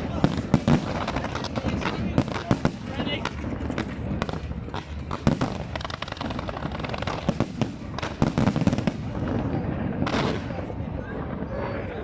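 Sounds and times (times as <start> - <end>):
fireworks bangs: 0.0 - 12.0
fireworks popping and crackling: 0.0 - 12.0.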